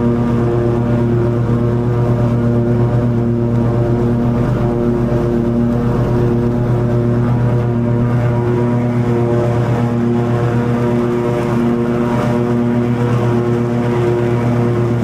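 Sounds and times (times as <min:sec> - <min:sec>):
lawn mower engine drone: 0:00.0 - 0:15.0.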